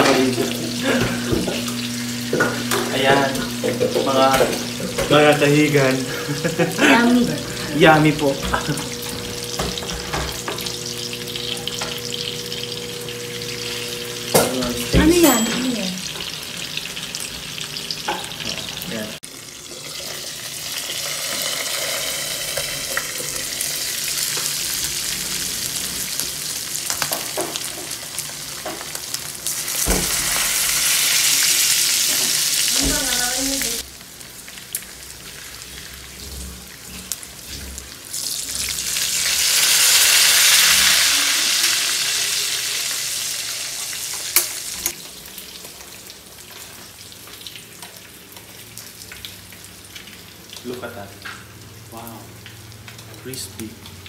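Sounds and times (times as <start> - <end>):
meat deep-frying in hot oil: 0.0 - 54.0.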